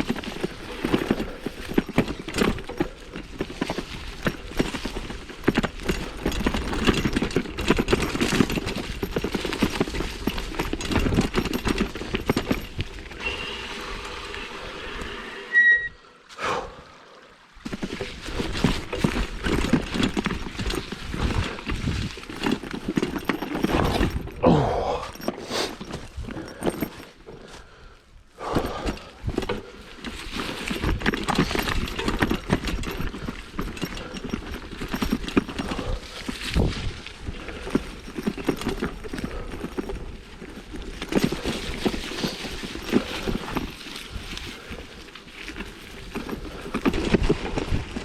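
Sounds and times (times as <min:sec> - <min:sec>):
bike tyres crunching on dirt trail: 0:00.0 - 0:14.9, 0:17.5 - 0:48.0.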